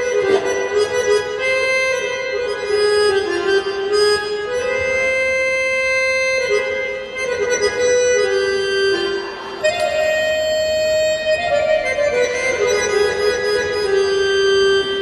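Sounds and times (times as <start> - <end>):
accordion playing slow melody: 0.0 - 15.0.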